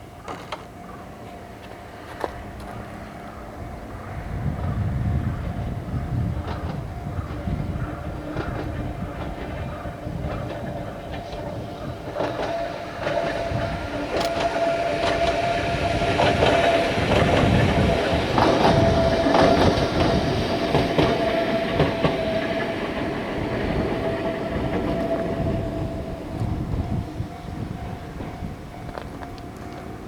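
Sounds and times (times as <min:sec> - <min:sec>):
train wheels clicking over rail joints: 0:00.0 - 0:03.1, 0:04.4 - 0:30.0
train whine: 0:00.0 - 0:30.0.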